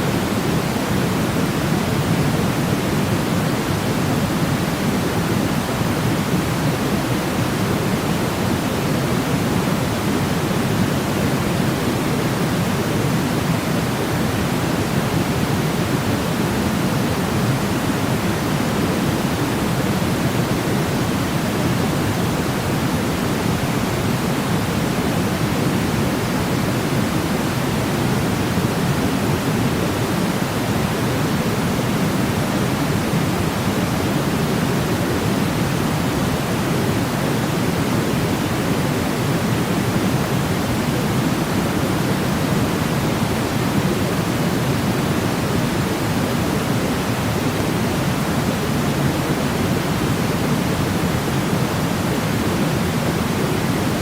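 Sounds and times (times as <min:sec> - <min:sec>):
low pink noise hiss: 0:00.0 - 0:54.0.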